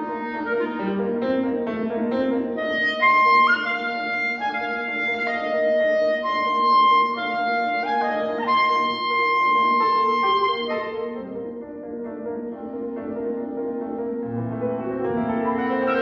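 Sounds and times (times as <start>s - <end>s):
clarinet melody: 0.0s - 16.0s
piano accompaniment: 0.0s - 16.0s.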